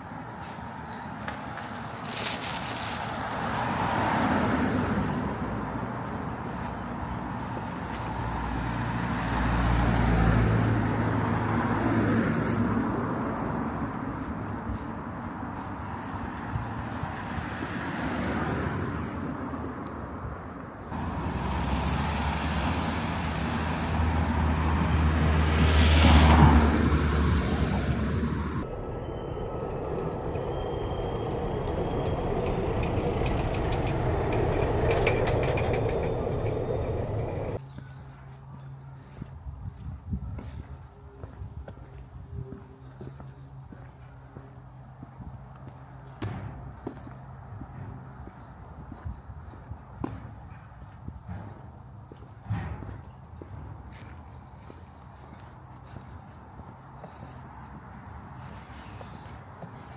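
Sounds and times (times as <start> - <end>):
background traffic noise: 0.0 - 59.9
car passing: 0.0 - 59.9
train rumbling on track: 0.0 - 59.9.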